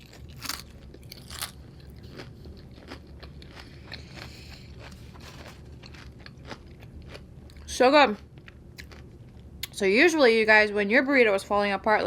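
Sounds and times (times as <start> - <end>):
person chewing crunchy food: 0.0 - 9.7.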